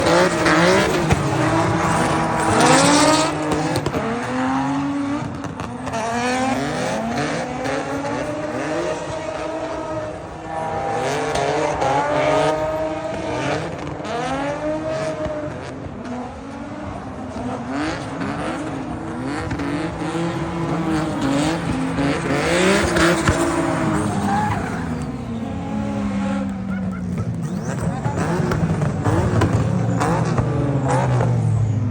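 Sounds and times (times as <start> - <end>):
tyres squealing and skidding: 0.0 - 15.5, 16.5 - 31.9
car engine revving: 0.0 - 31.9.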